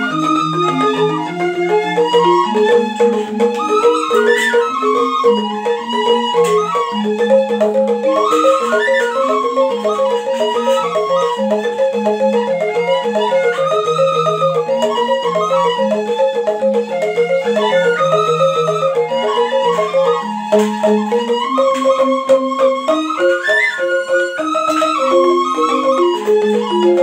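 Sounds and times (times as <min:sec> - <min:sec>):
bamboo flute melody: 0:00.0 - 0:27.0
bamboo xylophones struck with mallets: 0:00.0 - 0:27.0.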